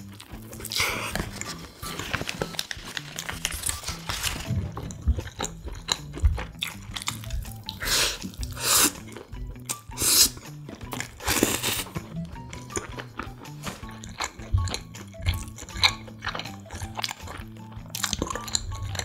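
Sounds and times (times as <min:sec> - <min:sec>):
biting and wet chewing: 0:00.0 - 0:19.0
quiet background music: 0:00.0 - 0:19.0.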